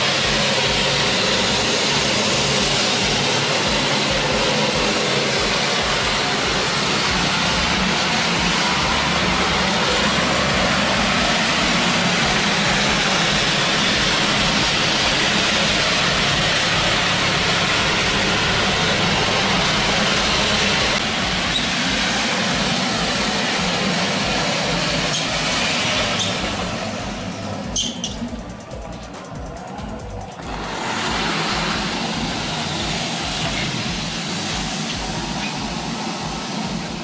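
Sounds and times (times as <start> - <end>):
floor scrubber running: 0.0 - 37.0.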